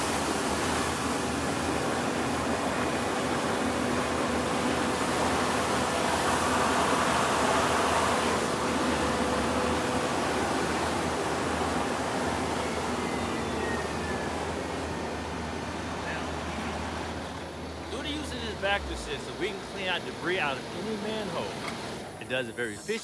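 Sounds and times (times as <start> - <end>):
truck machinery running: 0.0 - 23.0.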